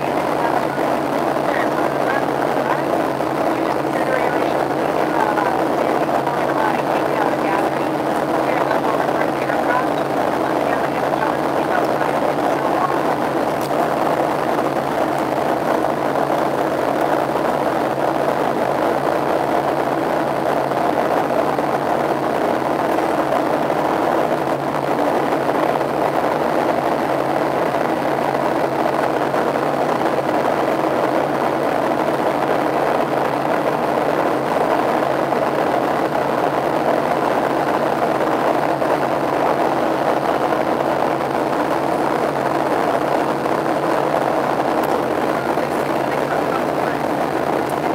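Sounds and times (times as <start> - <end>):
airplane cabin engine hum: 0.0 - 47.9.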